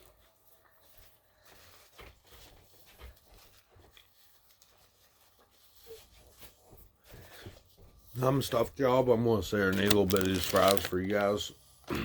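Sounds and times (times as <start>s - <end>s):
faint soft rustles and ticks: 0.0s - 11.0s.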